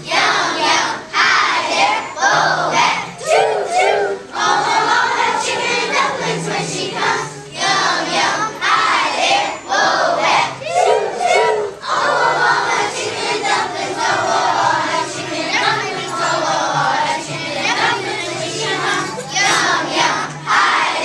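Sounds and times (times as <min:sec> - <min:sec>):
children singing together: 0:00.0 - 0:21.0.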